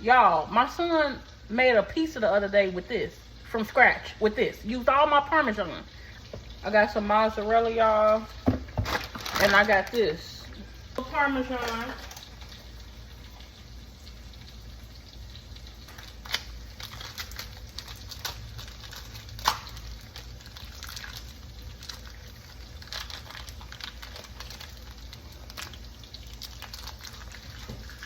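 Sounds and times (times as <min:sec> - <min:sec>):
sauce simmering with crackles: 0:00.0 - 0:28.0.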